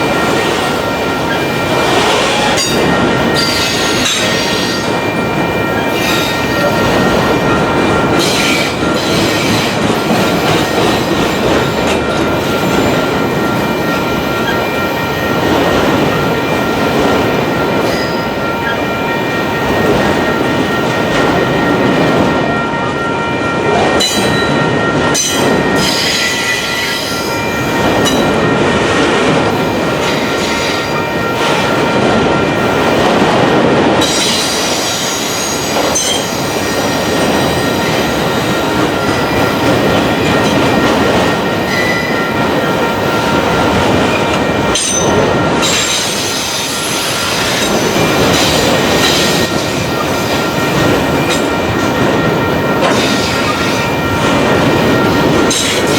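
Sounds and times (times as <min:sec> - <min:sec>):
train wheels rumbling: 0:00.0 - 0:55.9.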